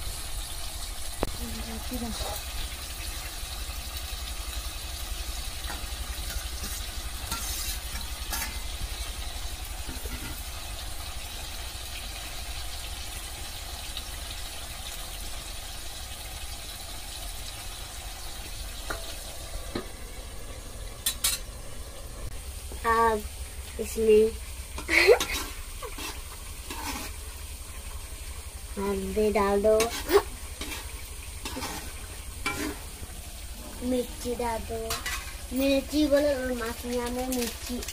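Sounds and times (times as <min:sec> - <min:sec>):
food sizzling in a pan: 0:00.0 - 0:37.9.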